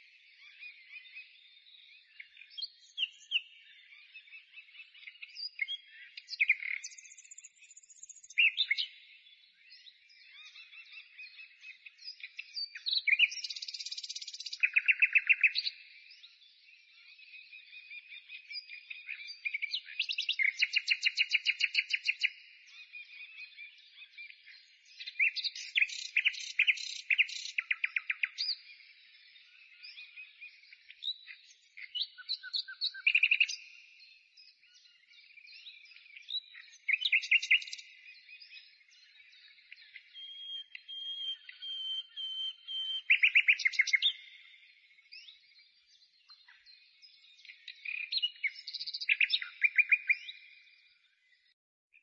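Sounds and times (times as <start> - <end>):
songbird chirps and trills: 0.0 - 52.0.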